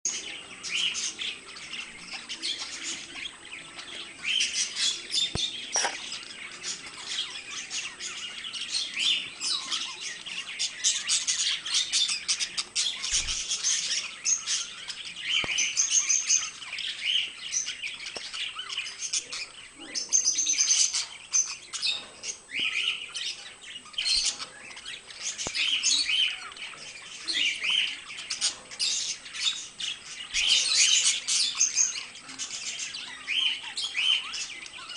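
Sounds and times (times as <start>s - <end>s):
budgerigars chirping and warbling: 0.1s - 34.9s.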